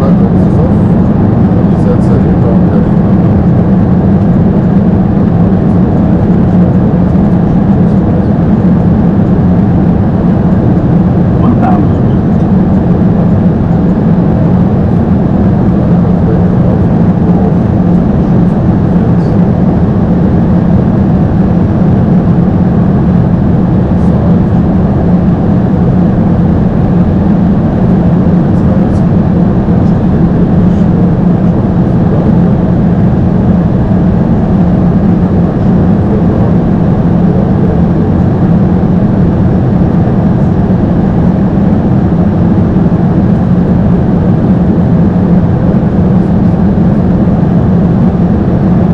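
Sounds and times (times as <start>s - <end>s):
aircraft airflow and engine noise: 0.0s - 48.9s.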